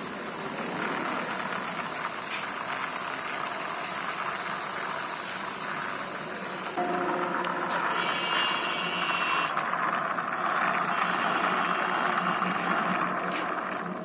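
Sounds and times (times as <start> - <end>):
plastic toy wheels rolling: 0.0 - 6.8, 7.4 - 14.0.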